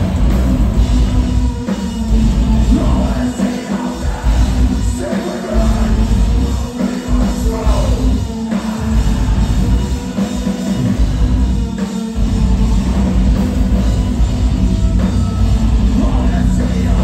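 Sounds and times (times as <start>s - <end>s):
bass guitar: 0.0s - 17.0s
distorted electric guitars: 0.0s - 17.0s
drum kit: 0.0s - 17.0s
keyboards: 0.0s - 17.0s.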